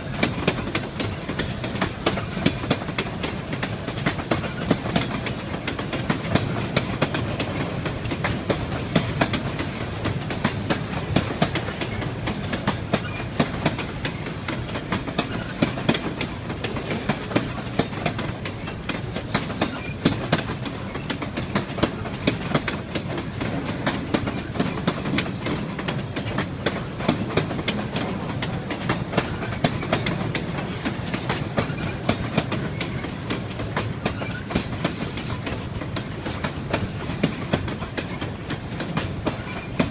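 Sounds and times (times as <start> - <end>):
train rumble: 0.0 - 39.9
train wheels clicking over rail joints: 0.0 - 39.9.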